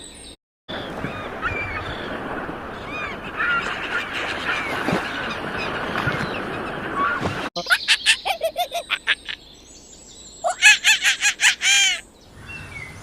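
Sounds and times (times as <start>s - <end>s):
flock of birds calling: 0.8s - 9.5s, 10.4s - 13.0s.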